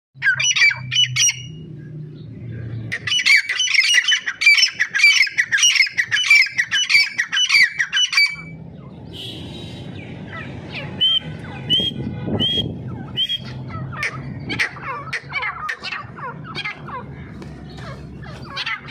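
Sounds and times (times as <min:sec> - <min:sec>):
birds squawking harshly: 0:00.2 - 0:18.9.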